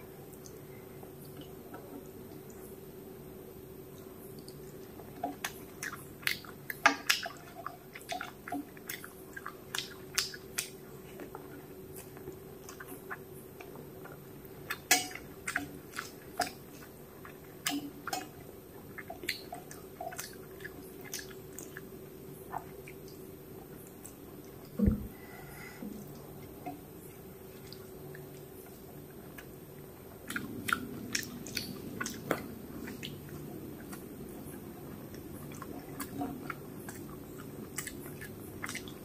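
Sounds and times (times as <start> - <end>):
faint steady hum: 0.0 - 39.0
chewing: 4.2 - 24.8, 25.9 - 39.0.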